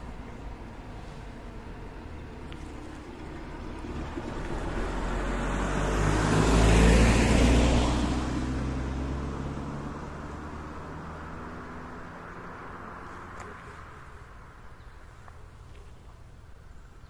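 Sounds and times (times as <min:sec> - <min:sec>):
car driving past: 0:00.0 - 0:14.6.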